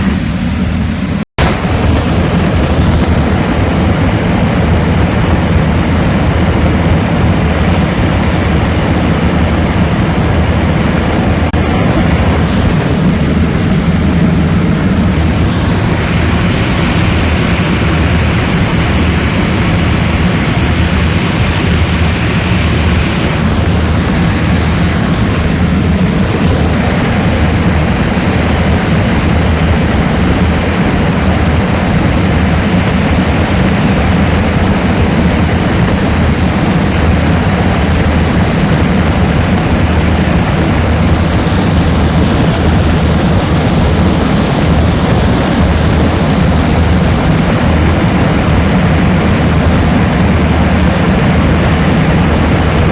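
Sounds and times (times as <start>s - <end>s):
propeller aircraft engine drone: 0.0s - 52.9s.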